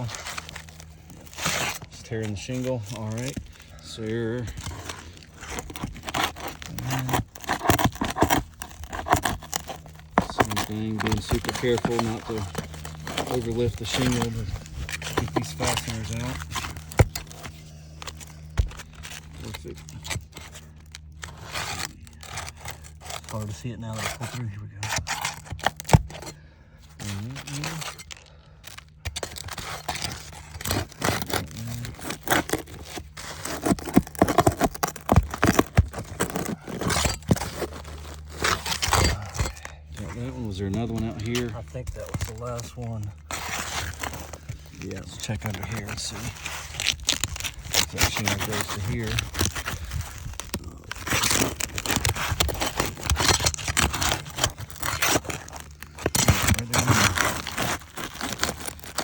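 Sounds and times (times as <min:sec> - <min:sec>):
shingle scraping and tearing: 0:00.0 - 0:59.0.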